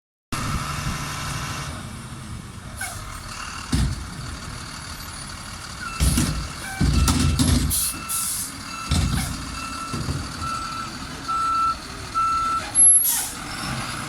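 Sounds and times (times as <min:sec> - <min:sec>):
garbage truck engine running: 0:00.4 - 0:14.0.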